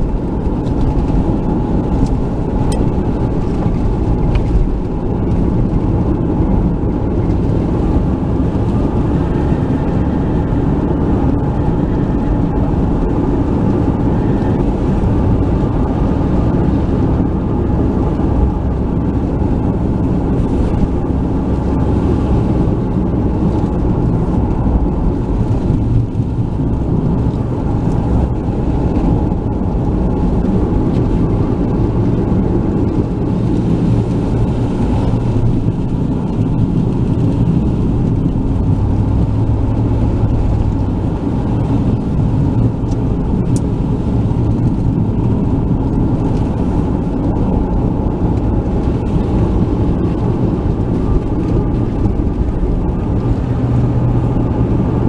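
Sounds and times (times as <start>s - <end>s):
car engine hum: 0.0s - 55.0s
tyre rumble on wet asphalt: 0.0s - 55.0s.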